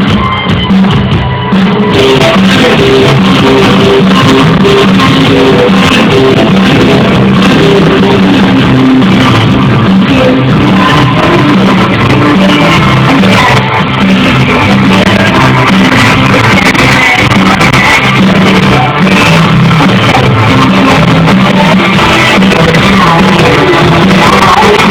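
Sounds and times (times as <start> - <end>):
bass guitar: 0.0 - 24.9
distorted electric guitar: 0.0 - 24.9
drums: 0.0 - 24.9.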